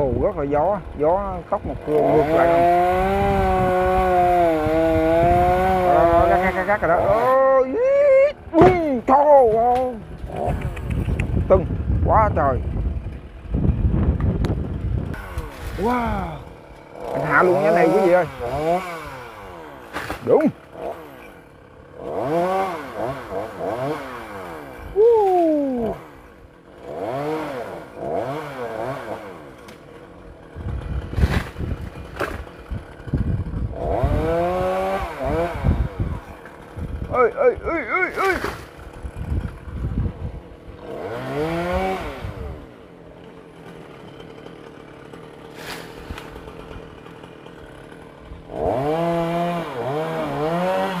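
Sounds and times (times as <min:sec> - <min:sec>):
chainsaw engine revving: 0:00.0 - 0:51.0.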